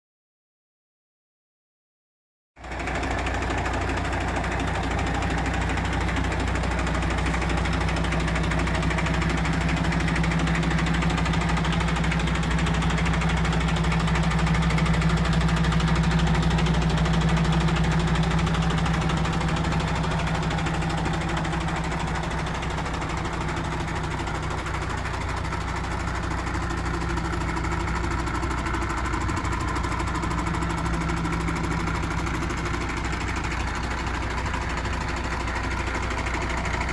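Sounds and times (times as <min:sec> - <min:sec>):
diesel truck engine idling: 0:02.6 - 0:36.9.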